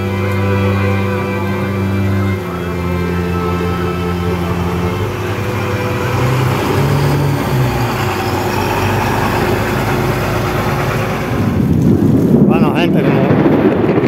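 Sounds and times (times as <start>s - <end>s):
tyres hissing on wet road: 0.0s - 11.8s
bus engine running: 0.0s - 12.5s.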